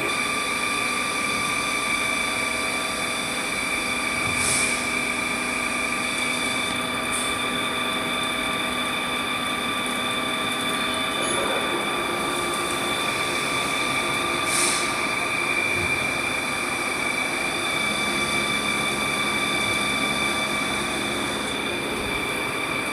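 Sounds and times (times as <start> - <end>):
lathe machine whine: 0.0 - 22.9.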